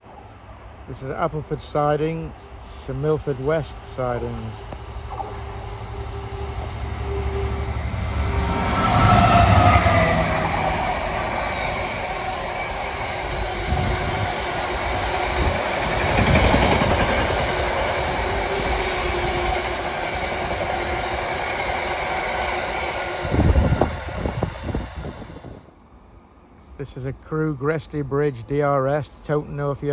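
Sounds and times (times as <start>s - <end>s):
locomotive engine passing: 0.4s - 25.6s.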